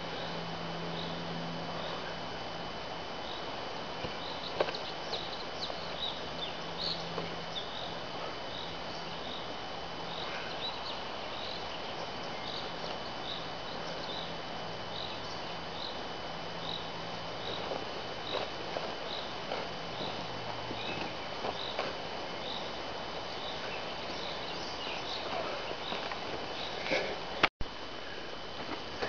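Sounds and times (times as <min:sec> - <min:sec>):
steady woodland hiss: 0:00.0 - 0:29.0.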